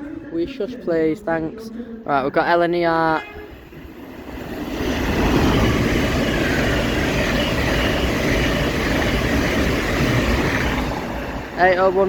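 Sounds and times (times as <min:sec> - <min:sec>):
electric train passing: 0:02.3 - 0:12.0.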